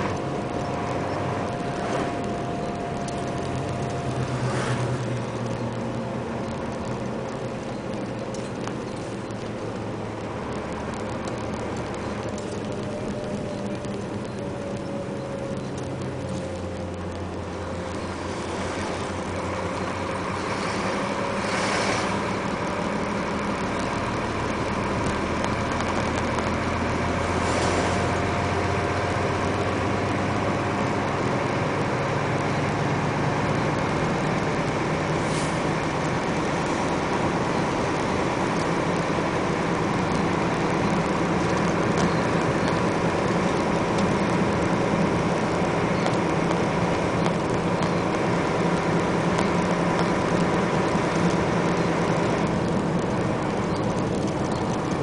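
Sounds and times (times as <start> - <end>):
truck engine running: 0.0 - 55.0
tyre and road noise: 0.0 - 55.0.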